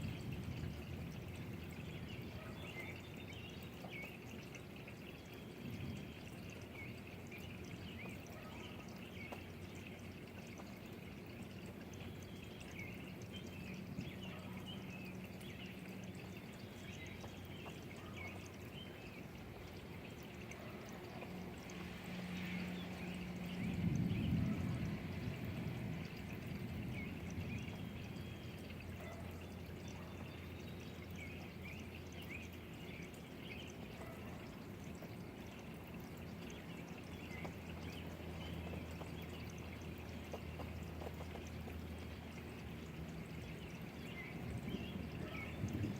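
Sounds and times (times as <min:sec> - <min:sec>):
rain pouring and dripping: 0:00.0 - 0:45.9.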